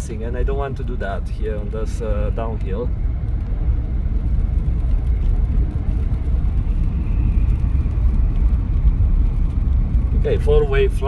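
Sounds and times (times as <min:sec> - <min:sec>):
tyres rumbling on snowy road: 0:00.0 - 0:11.0.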